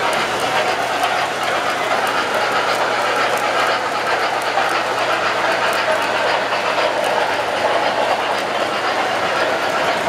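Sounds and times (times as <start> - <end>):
model train wheels rattling on rails: 0.0 - 10.0.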